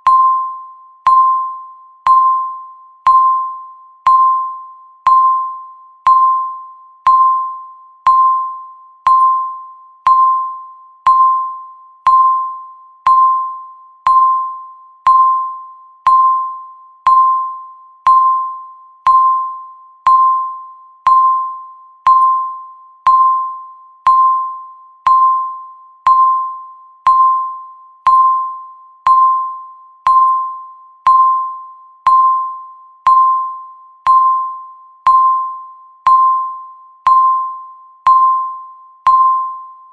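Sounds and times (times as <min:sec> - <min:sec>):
timer ticking pings: 0:00.0 - 0:39.9.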